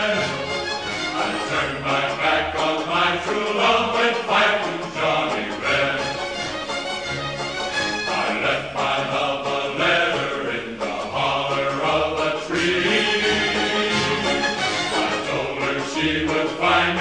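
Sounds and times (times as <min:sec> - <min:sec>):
slow choral singing: 0:00.0 - 0:06.6, 0:08.0 - 0:17.0.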